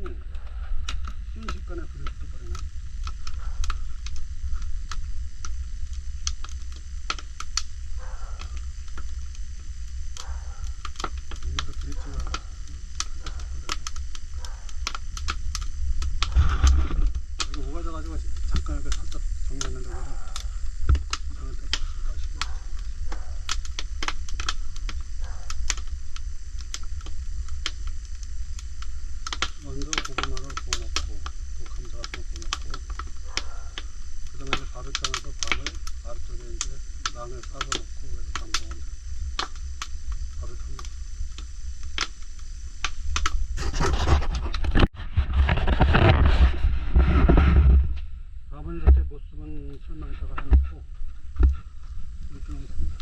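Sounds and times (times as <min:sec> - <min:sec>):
steady low rumble: 0:00.0 - 0:53.0
wood fire crackling and popping: 0:00.0 - 0:53.0.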